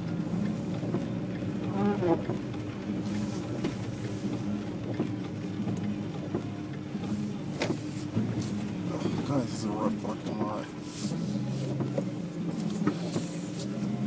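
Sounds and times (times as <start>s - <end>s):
engine and tyre hum: 0.0s - 14.0s.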